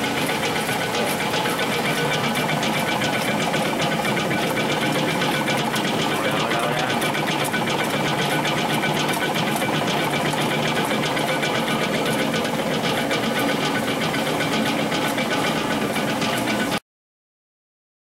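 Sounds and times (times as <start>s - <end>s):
dough mixer motor whirring: 0.0s - 16.8s.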